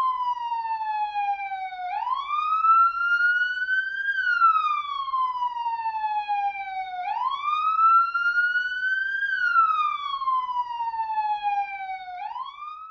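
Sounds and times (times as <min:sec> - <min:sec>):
police siren wailing: 0:00.0 - 0:12.9.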